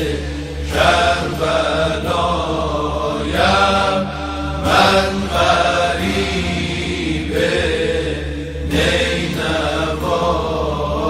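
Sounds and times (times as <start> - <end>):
men chanting a lament: 0.0 - 11.0
steady low drone: 0.0 - 11.0.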